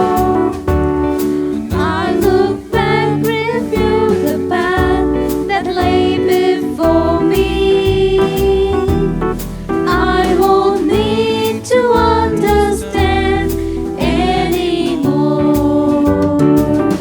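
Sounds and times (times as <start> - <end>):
choir singing gospel song: 0.0 - 17.0
instrumental accompaniment with beat: 0.0 - 17.0.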